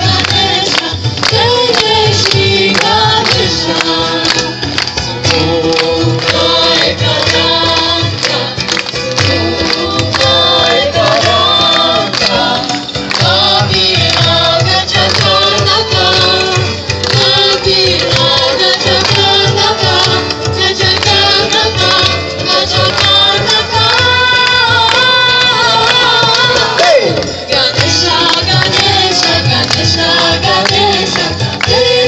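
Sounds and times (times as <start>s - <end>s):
group singing in chorus: 0.0s - 32.0s
hand drum beat: 0.0s - 32.0s.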